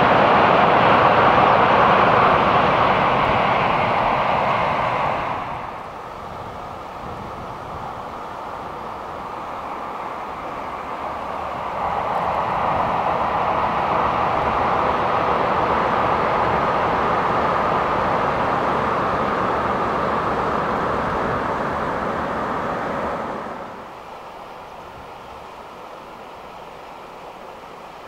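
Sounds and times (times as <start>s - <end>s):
train rumbling over steel bridge: 0.0s - 28.0s.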